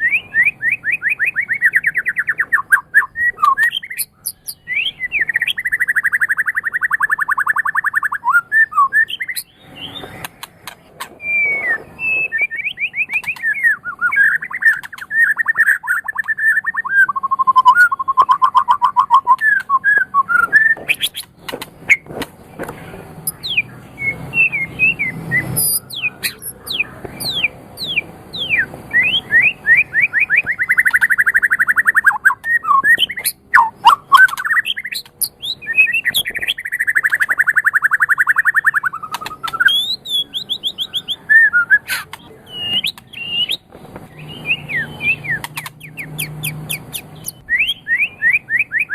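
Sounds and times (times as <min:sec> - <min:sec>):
bird singing trills and whistles: 0:00.0 - 0:22.1, 0:23.2 - 0:48.9.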